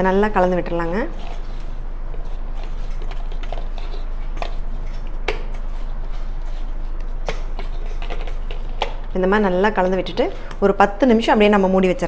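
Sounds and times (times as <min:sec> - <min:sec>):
dough mixing clicks and taps: 0:00.0 - 0:11.4
steady low hum: 0:00.0 - 0:12.0.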